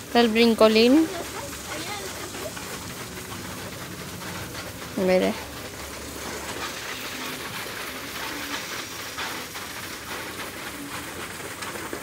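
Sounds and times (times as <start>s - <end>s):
water drops spattering on pavement: 0.0s - 12.0s.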